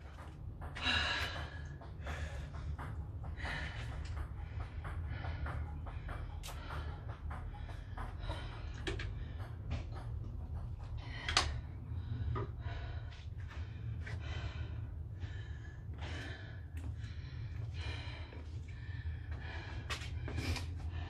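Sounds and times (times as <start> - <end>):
steady low hum: 0.0 - 21.0
woman breathing hard: 0.0 - 21.0.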